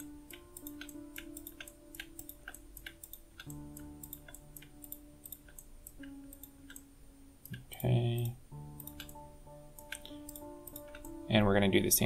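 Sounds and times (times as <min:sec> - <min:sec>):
faint background music chords: 0:00.0 - 0:12.0
steady ticking beat: 0:00.0 - 0:12.0.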